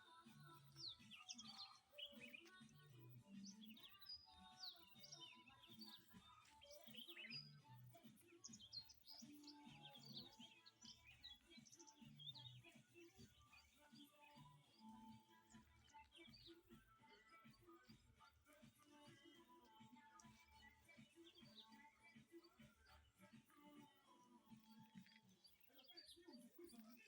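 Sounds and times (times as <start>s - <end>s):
birds chirping: 0.0s - 27.0s
quiet background music: 0.0s - 27.0s.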